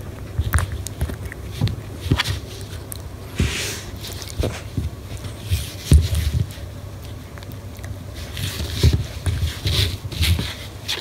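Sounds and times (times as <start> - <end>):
puppy scuffling on floor: 0.0 - 11.0
rustling: 0.0 - 11.0.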